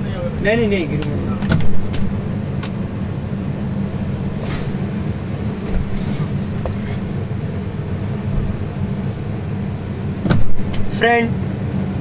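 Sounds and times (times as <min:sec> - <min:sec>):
refrigeration unit droning: 0:00.0 - 0:12.0.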